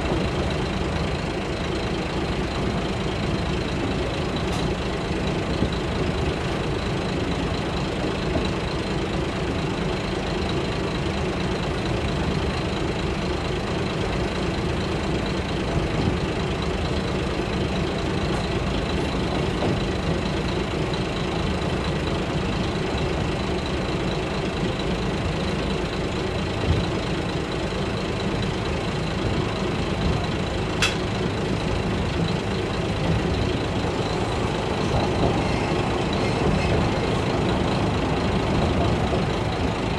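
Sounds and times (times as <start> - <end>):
railcar engine drone: 0.0 - 39.9
wheels running on rails: 0.0 - 39.9.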